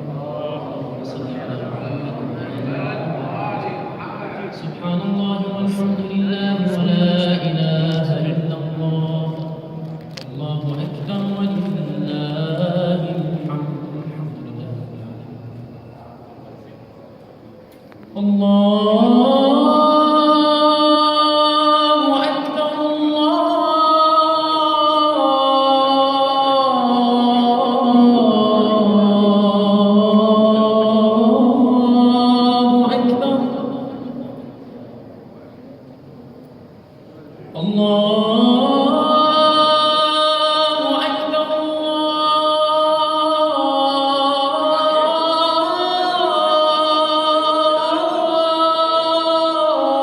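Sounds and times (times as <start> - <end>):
man chanting call to prayer: 0.0 - 16.8, 18.2 - 34.6, 37.3 - 50.0.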